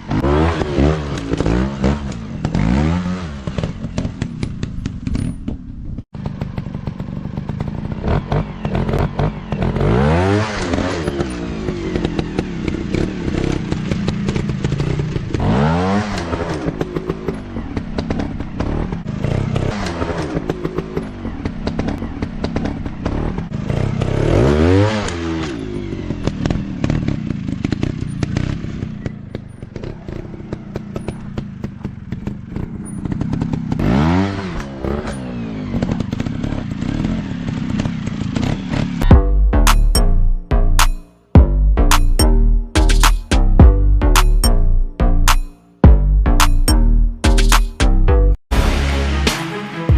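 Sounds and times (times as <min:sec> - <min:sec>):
dirt bike engine revving: 0:00.0 - 0:04.3, 0:06.2 - 0:49.9.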